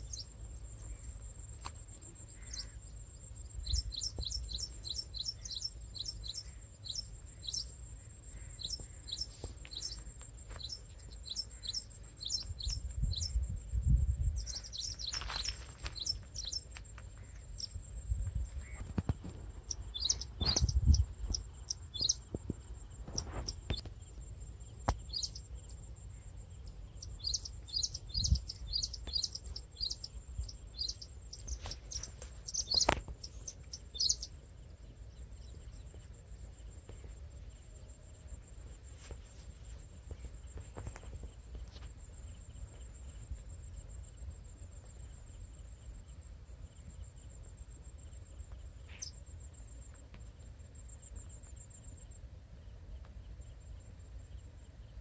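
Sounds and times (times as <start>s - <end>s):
high insect drone: 0.0s - 55.0s
small birds chirping: 0.0s - 55.0s.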